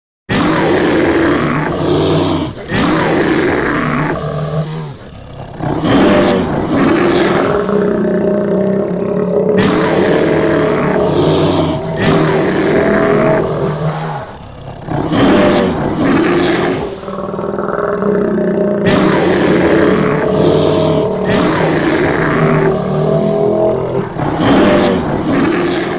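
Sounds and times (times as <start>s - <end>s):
monster roars: 0.3s - 25.9s.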